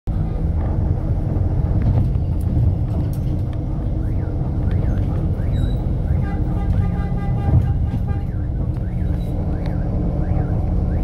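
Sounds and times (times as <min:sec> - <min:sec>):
bus engine rumble: 0:00.1 - 0:11.0
road noise: 0:00.1 - 0:11.0.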